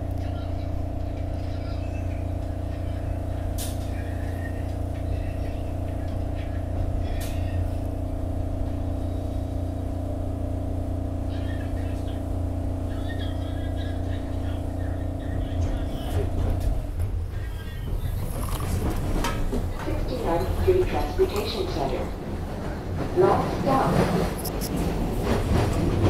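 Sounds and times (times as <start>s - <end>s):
train car rumbling on track: 0.0s - 26.0s.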